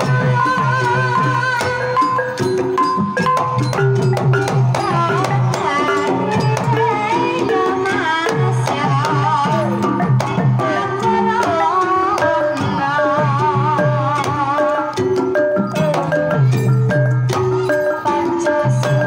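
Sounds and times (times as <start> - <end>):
hand drum patterns: 0.0 - 19.0
high wavering melody: 0.0 - 19.0.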